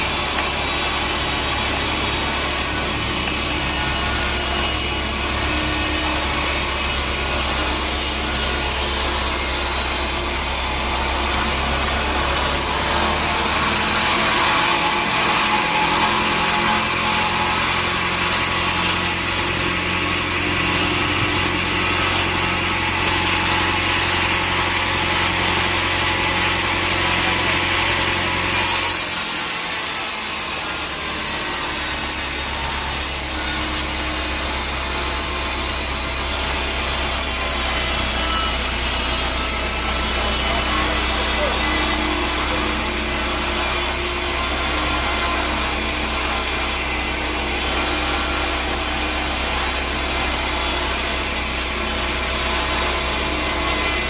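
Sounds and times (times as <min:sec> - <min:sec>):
saw cutting wood hissing: 0:00.0 - 0:54.0
saw machine hum: 0:00.0 - 0:54.0.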